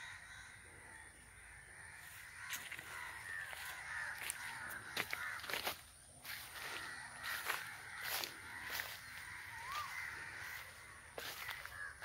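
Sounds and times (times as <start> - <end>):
crows cawing: 0.0 - 12.0.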